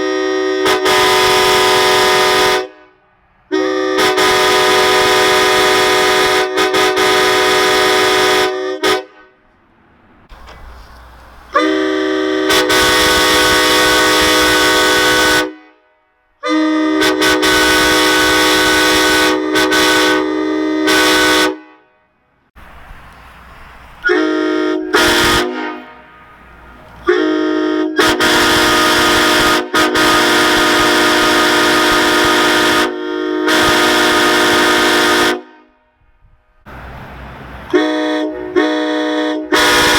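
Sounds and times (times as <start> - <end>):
vehicle horns blowing chords: 0.0 - 9.4, 11.5 - 22.2, 24.0 - 36.0, 37.7 - 39.9.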